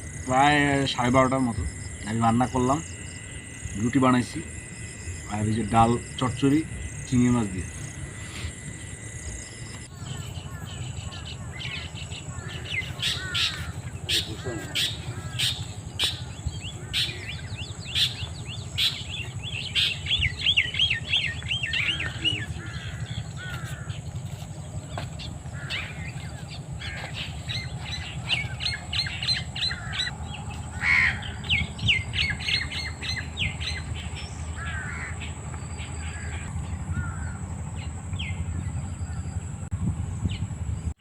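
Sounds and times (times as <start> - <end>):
birds chirping and squawking: 0.0 - 40.6.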